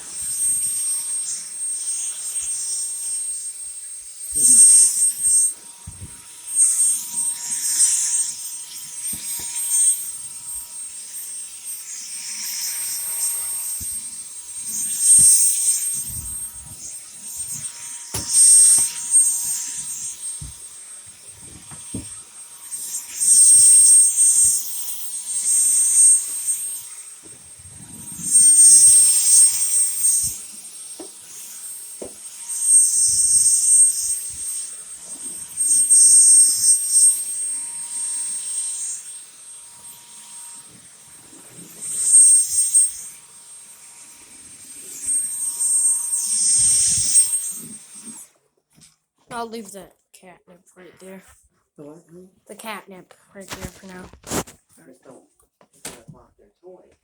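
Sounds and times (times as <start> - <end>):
vacuum motor whine: 0.0 - 48.2.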